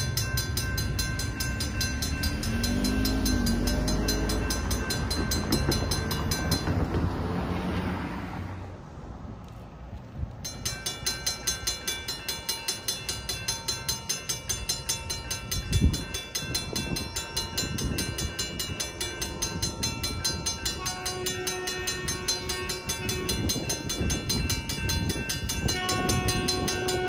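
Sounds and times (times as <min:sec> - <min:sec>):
mechanical crossing bell ringing: 0:00.0 - 0:06.9, 0:10.4 - 0:27.0.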